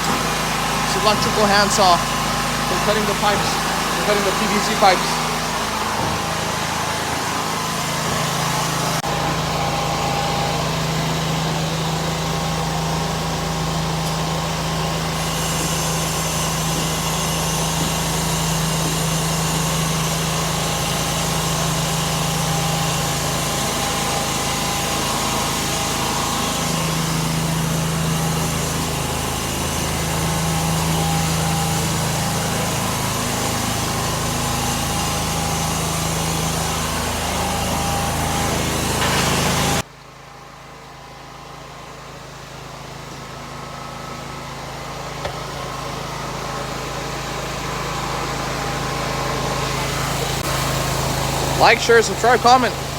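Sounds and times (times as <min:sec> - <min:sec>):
generator engine running: 0:00.0 - 0:52.9.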